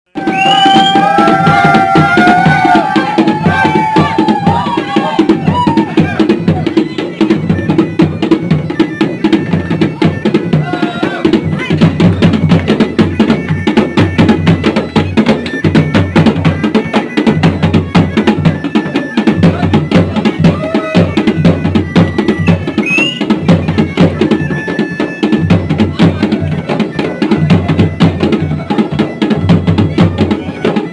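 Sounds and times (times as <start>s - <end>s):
drums playing fast rhythm: 0.1s - 30.9s.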